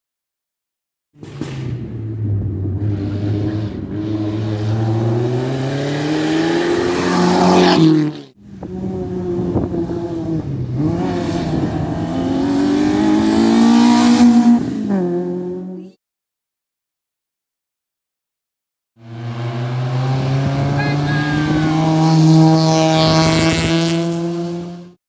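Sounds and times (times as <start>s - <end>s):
rally car engine accelerating: 1.2s - 15.9s, 19.0s - 25.0s.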